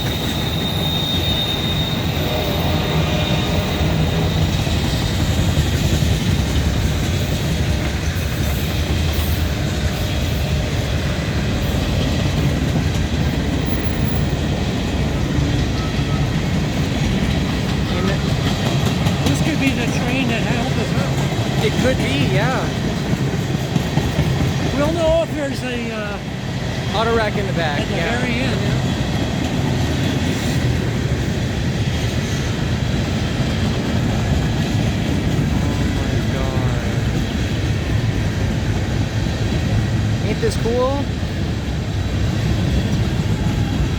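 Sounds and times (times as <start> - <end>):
freight train rolling past: 0.0 - 43.9.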